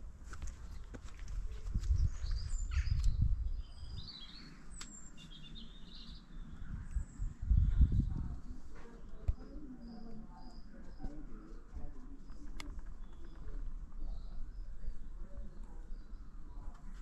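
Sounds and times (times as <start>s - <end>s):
low outdoor rumble: 0.0s - 17.0s
birds chirping: 0.4s - 17.0s.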